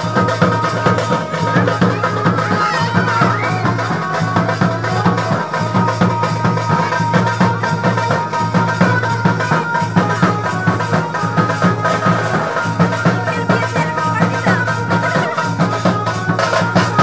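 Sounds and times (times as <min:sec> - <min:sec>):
band music: 0:00.0 - 0:17.0
drums beating: 0:00.0 - 0:17.0.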